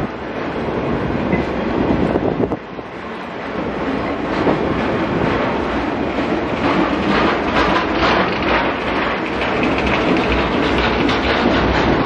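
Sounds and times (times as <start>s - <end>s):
train flatcars rolling past: 0.0s - 12.0s.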